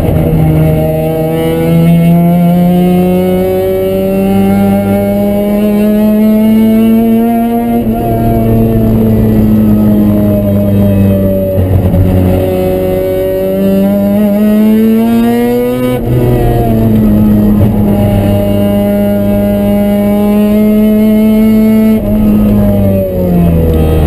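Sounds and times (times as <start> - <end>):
rotary engine accelerating: 0.0 - 24.0.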